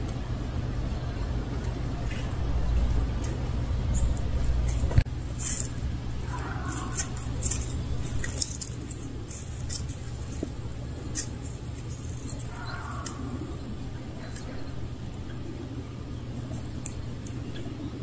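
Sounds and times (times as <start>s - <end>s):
low steady rumble: 0.0s - 18.0s
dry leaves crackling: 0.6s - 17.9s.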